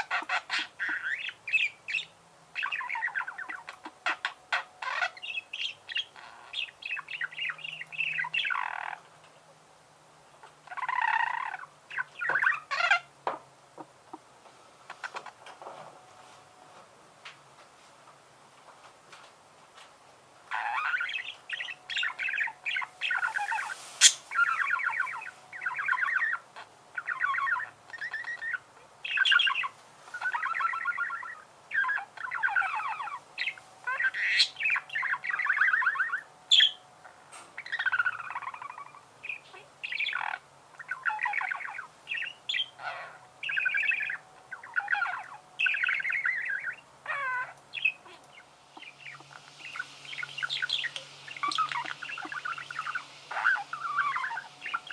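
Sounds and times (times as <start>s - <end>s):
budgerigars warbling and chirping: 0.0s - 9.1s, 10.4s - 14.2s, 14.9s - 15.5s, 20.4s - 54.9s.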